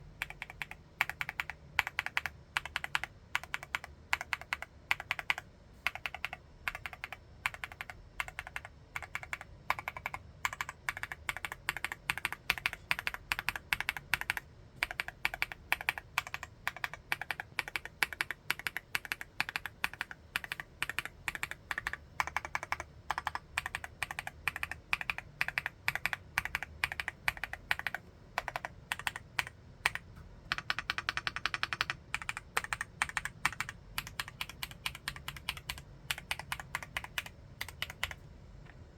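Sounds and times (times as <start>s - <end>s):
fast typing on mechanical keyboard: 0.2s - 38.2s.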